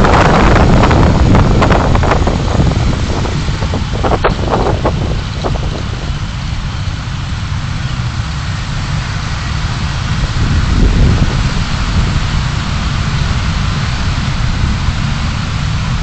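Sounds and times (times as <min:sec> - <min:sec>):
car road and engine rumble: 0:00.0 - 0:16.0
wind on microphone: 0:00.0 - 0:16.0.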